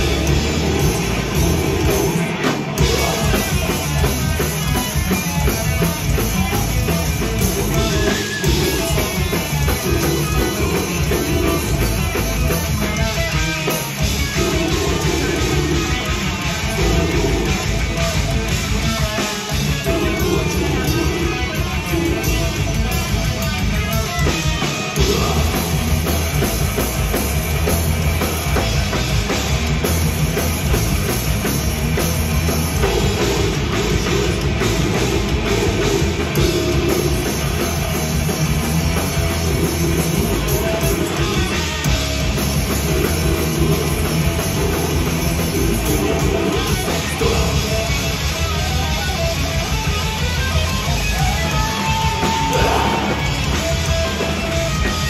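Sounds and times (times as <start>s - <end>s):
death metal band playing live: 0.0s - 55.0s.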